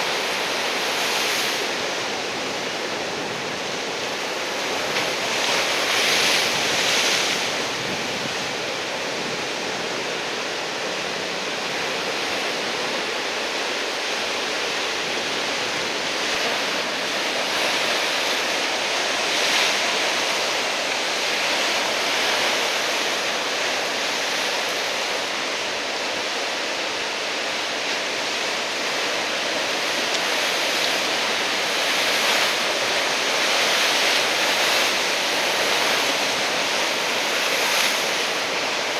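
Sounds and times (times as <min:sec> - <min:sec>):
heavy surf waves breaking: 0:00.0 - 0:38.9.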